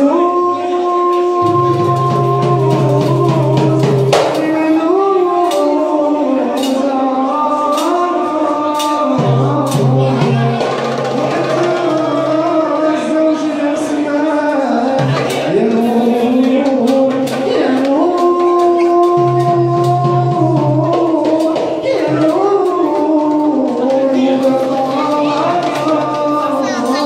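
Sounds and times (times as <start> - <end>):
hand drum beats: 1.2 - 13.9, 14.5 - 27.0.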